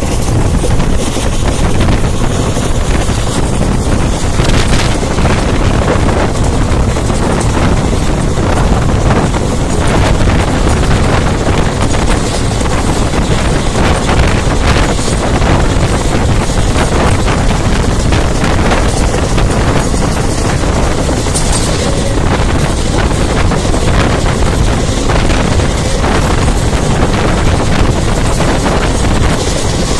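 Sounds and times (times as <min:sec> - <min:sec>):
train running rumble: 0:00.0 - 0:29.9
wind noise on microphone: 0:00.0 - 0:29.9.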